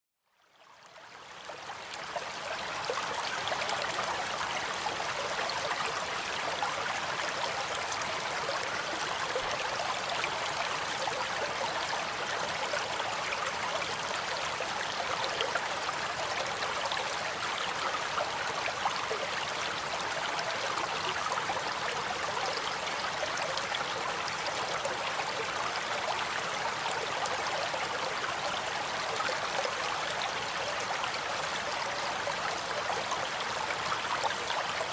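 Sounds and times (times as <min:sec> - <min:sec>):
stream running over stones: 0:00.6 - 0:34.9.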